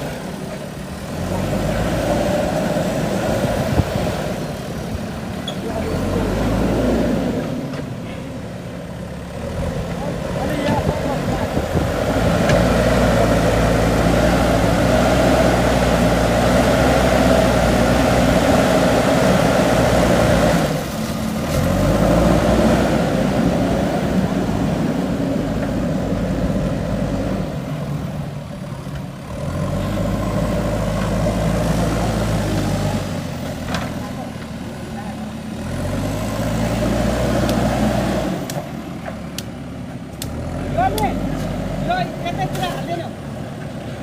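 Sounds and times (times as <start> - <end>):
backhoe diesel engine under load: 0.0 - 44.0.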